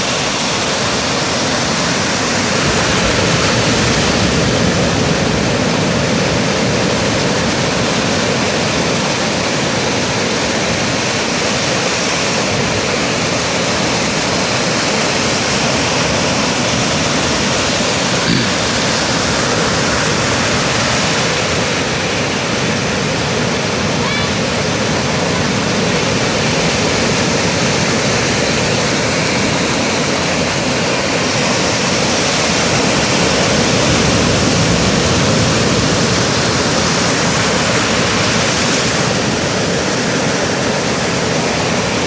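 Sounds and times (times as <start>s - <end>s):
surf breaking on shore: 0.0s - 42.0s.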